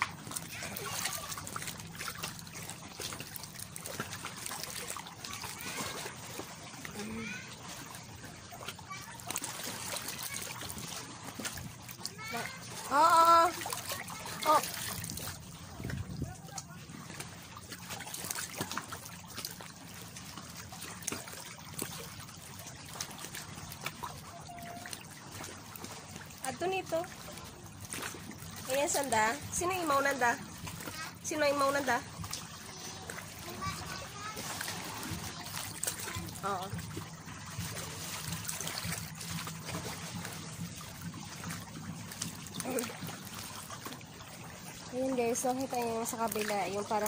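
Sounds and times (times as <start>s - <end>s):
sea water lapping and splashing: 0.0s - 47.0s.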